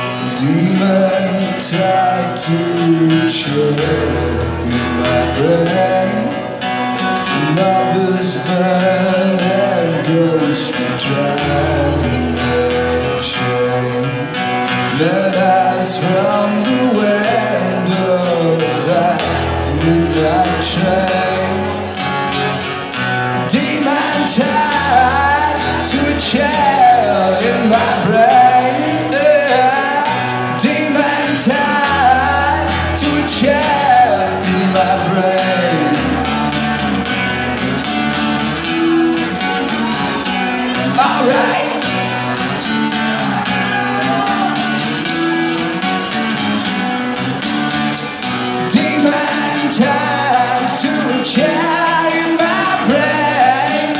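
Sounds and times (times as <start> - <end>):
man singing: 0.0 - 46.3, 48.2 - 53.9
acoustic guitar strumming: 0.0 - 53.9.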